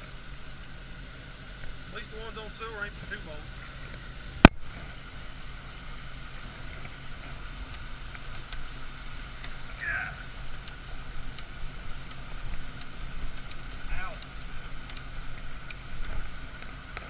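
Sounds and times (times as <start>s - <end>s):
machinery engine hum: 0.0s - 17.0s.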